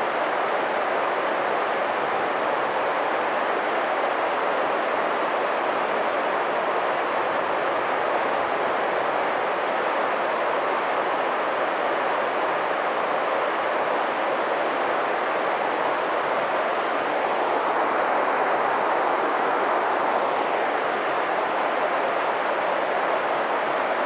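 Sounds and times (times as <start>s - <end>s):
mountain stream flowing: 0.0s - 24.0s.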